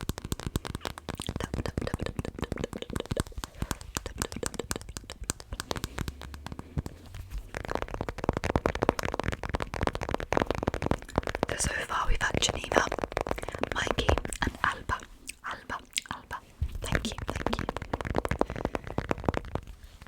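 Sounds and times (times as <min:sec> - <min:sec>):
rapid tapping on mobile phone: 0:00.0 - 0:15.1, 0:16.4 - 0:20.0.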